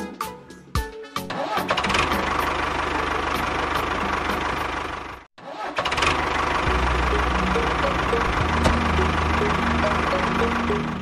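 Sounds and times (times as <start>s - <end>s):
tractor engine running: 1.7s - 11.0s.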